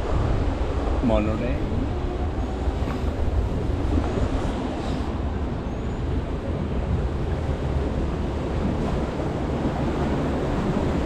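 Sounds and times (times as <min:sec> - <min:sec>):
water rushing: 0:00.0 - 0:11.0
wind rumble on microphone: 0:00.0 - 0:11.0.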